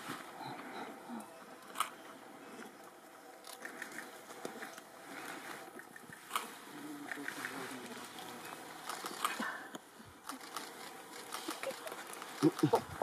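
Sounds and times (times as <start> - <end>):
leaves and bamboo rustling: 1.8 - 13.0.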